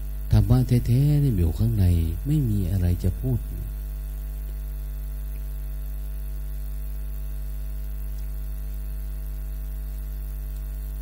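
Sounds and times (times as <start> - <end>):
electrical mains hum: 0.0 - 11.0
faint hiss: 0.0 - 11.0.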